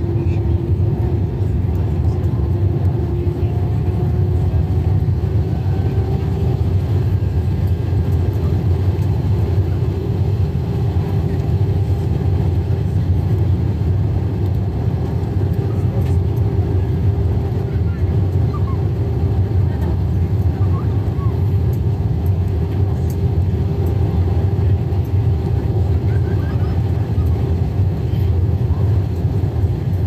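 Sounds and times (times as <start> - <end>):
airliner cabin roar: 0.0 - 30.0
faint engine hum: 0.0 - 30.0.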